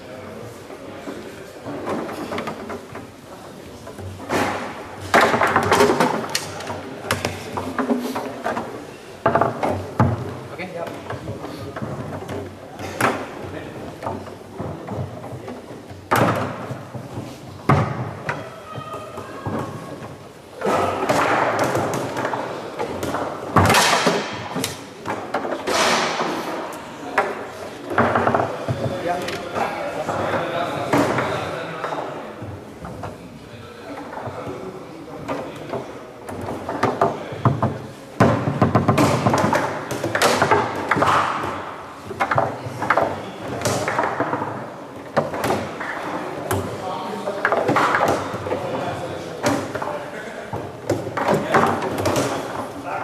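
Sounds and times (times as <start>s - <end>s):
foosball rods thudding and clacking: 1.0s - 18.5s, 19.2s - 33.2s, 33.9s - 52.8s.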